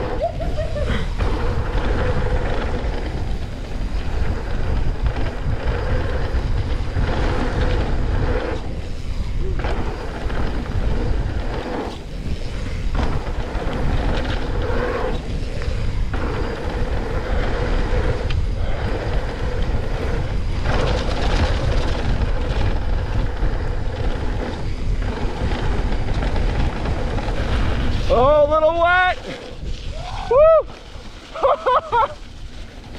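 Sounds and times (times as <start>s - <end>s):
bike tyre and frame rattle: 0.0s - 32.9s
wind rush on microphone: 0.0s - 32.9s.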